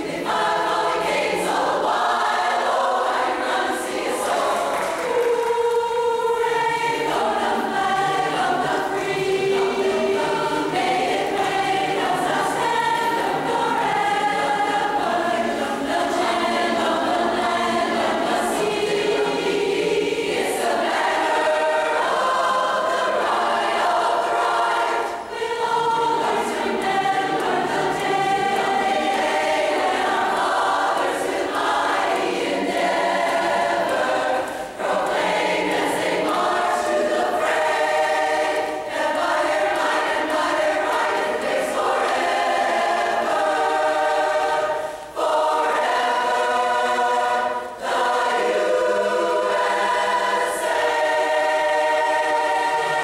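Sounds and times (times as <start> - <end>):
women's chorus singing a cappella: 0.0 - 53.0.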